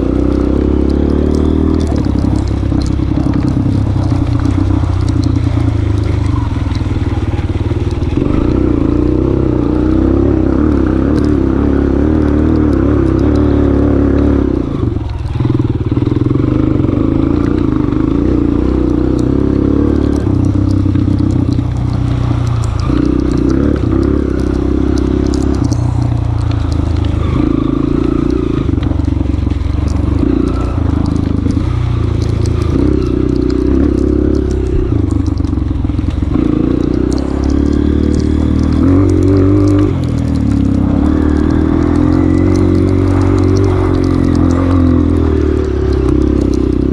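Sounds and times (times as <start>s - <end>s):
motorcycle engine revving: 0.0s - 46.9s
ticks and clatter: 0.0s - 46.9s.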